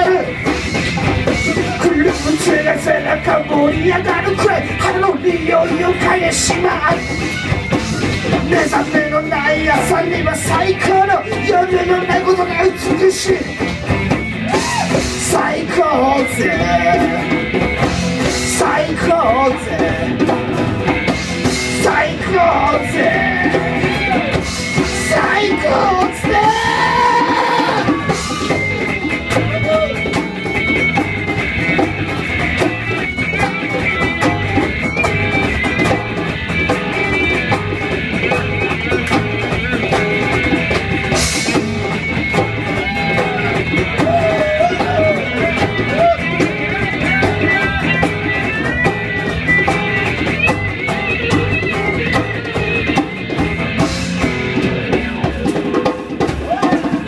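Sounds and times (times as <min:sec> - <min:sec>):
bass guitar: 0:00.0 - 0:57.0
drums: 0:00.0 - 0:57.0
electric guitar melody: 0:00.0 - 0:57.0.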